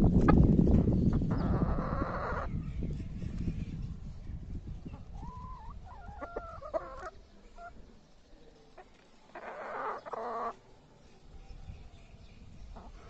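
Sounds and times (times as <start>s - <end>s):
chickens clucking: 0.1s - 10.6s, 12.7s - 13.0s.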